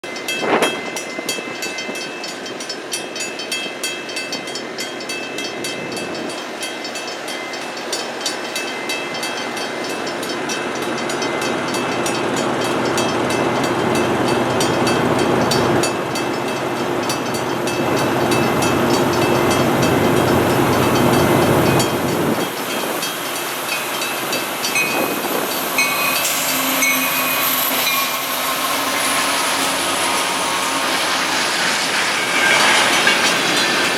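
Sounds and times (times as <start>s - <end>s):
diesel locomotive engine: 0.0s - 33.9s
train wheels on rails: 0.0s - 33.9s.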